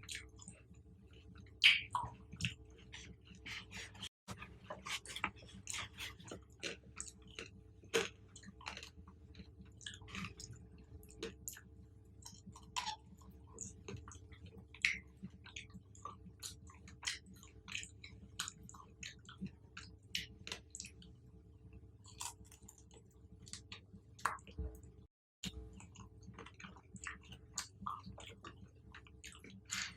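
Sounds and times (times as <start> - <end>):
person chewing fruit: 0.0 - 21.2, 22.0 - 24.6, 25.4 - 29.9.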